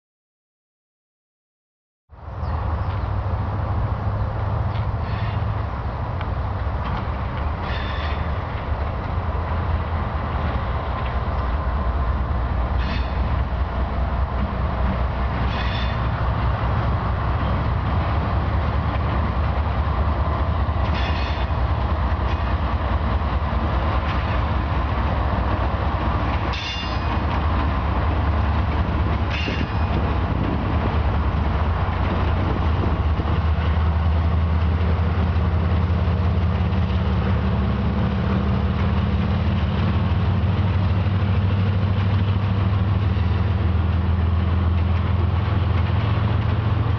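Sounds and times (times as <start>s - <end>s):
diesel locomotive engines droning: 2.1s - 46.9s
train cars rattling over rails: 2.2s - 46.9s.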